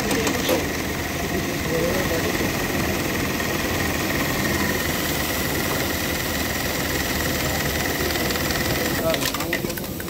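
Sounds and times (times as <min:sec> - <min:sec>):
sewing machine humming and whining: 0:00.0 - 0:10.0.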